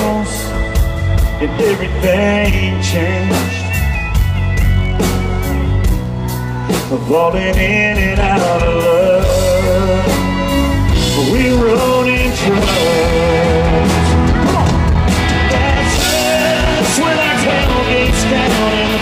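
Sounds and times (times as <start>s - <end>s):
live country band music: 0.0s - 19.0s
person singing: 0.0s - 19.0s.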